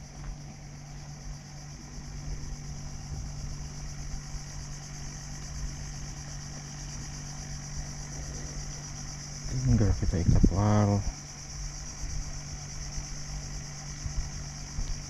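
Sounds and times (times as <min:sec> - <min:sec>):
boat engine humming: 0:00.0 - 0:15.0
high-pitched insect drone: 0:00.0 - 0:15.0.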